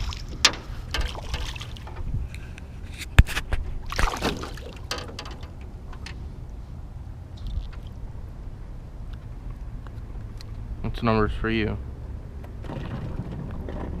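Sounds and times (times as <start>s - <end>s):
low steady boat rumble: 0.0s - 14.0s.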